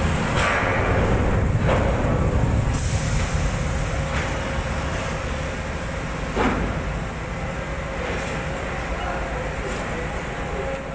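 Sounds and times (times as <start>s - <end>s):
crane low rumble: 0.0s - 10.7s.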